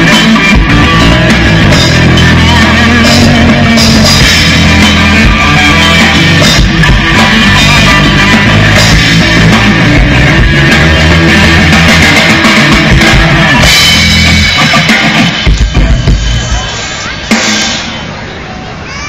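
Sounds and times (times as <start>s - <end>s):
electric guitars: 0.0s - 16.5s
bass guitar: 0.0s - 16.7s
drum kit: 0.0s - 18.2s.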